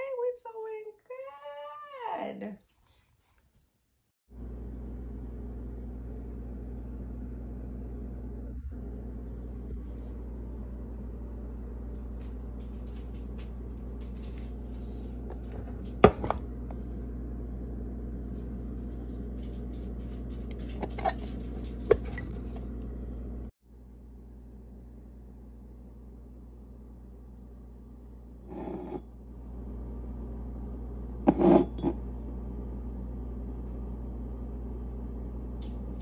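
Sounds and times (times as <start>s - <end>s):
low hum: 4.3s - 36.0s.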